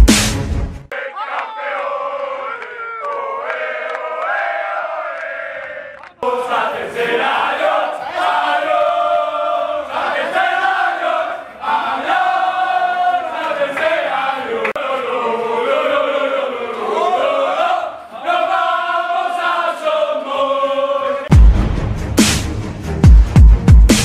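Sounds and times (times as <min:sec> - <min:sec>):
men chanting and singing: 0:00.9 - 0:21.3.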